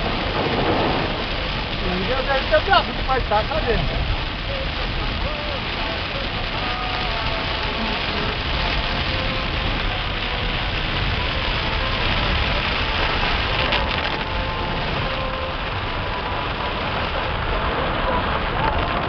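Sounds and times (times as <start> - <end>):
heavy rain on a car: 0.0 - 19.0.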